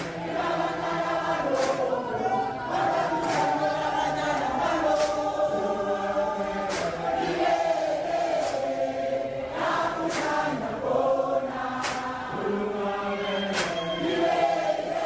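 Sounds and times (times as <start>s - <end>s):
choir chanting: 0.0s - 15.0s.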